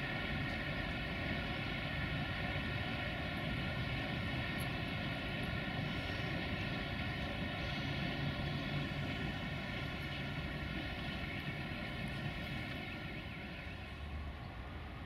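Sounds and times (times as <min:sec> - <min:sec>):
electric locomotive drone: 0:00.0 - 0:15.0.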